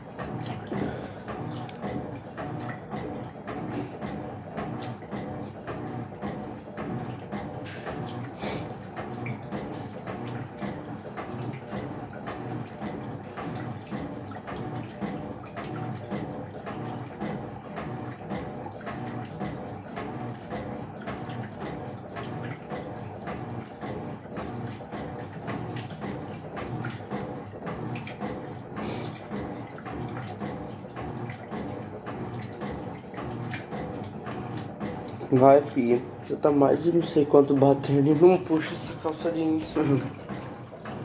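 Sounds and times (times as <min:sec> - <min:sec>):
washing machine sloshing: 0:00.0 - 0:41.0.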